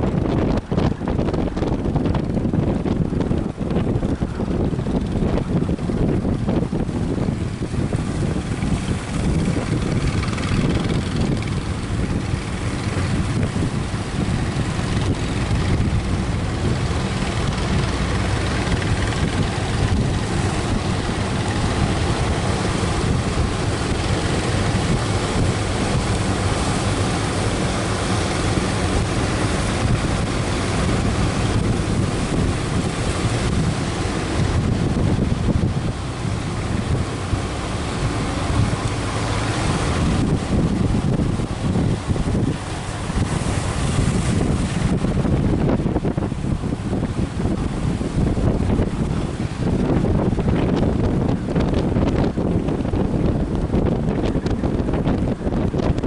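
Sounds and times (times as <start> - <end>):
boat engine running: 0.0 - 56.0
waves breaking: 0.0 - 56.0
wind buffeting microphone: 0.0 - 56.0.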